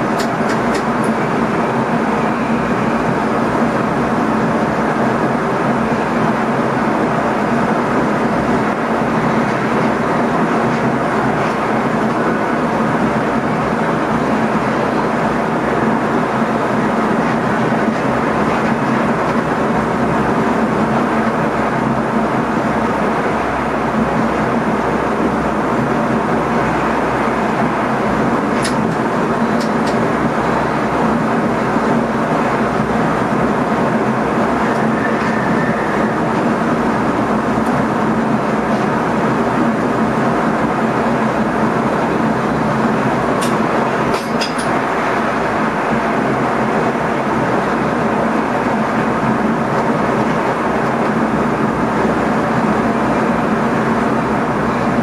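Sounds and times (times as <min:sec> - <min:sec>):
constant hum: 0:00.0 - 0:55.0
train wheels rumbling: 0:00.0 - 0:55.0.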